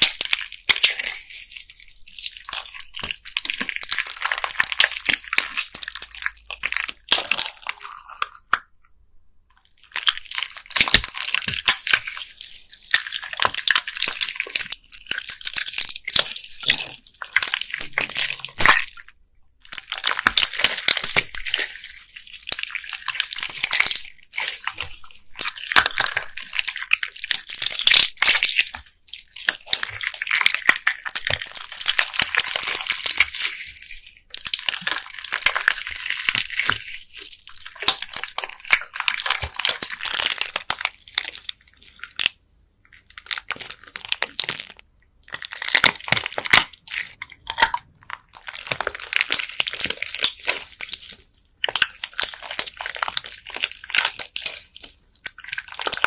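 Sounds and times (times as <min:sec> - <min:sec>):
slime crackling and popping: 0:00.0 - 0:08.8, 0:09.6 - 0:56.0.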